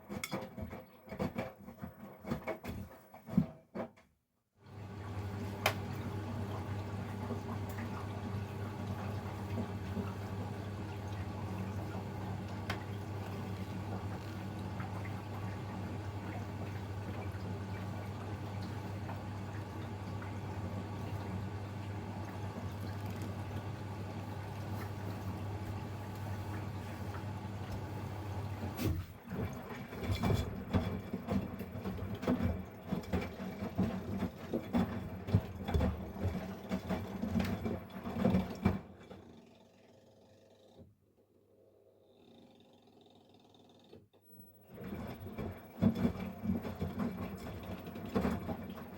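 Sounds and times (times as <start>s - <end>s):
washing machine hum: 0.0s - 4.0s, 4.6s - 48.9s
water churning and sloshing: 4.8s - 39.8s, 44.6s - 48.9s.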